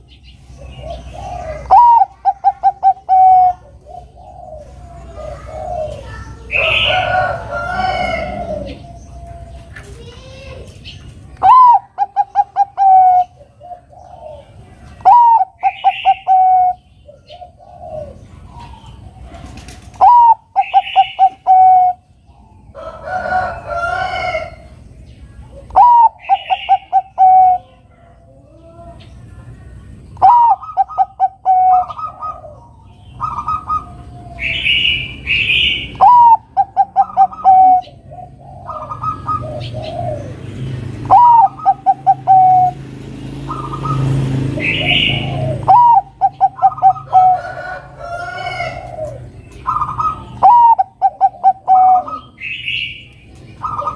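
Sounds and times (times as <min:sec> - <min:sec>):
dove cooing: 0:00.0 - 0:10.7, 0:11.4 - 0:24.8, 0:25.4 - 0:29.0, 0:30.2 - 0:53.9.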